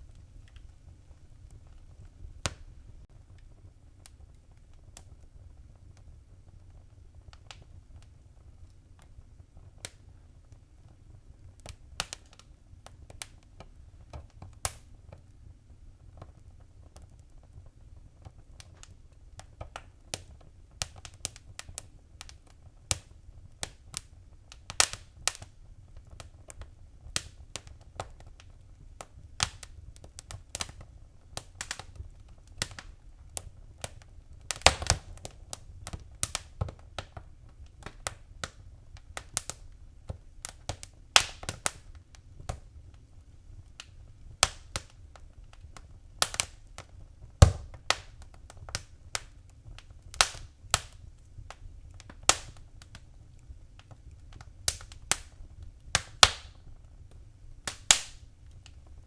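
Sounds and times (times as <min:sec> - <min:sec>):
fire crackles and pops: 0:00.0 - 0:59.0
low rumble of flames: 0:00.0 - 0:59.0.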